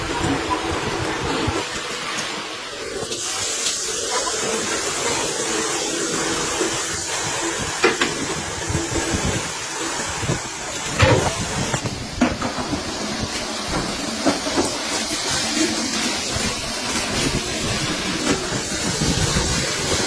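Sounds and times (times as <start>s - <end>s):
compressed air hissing: 2.9s - 20.0s.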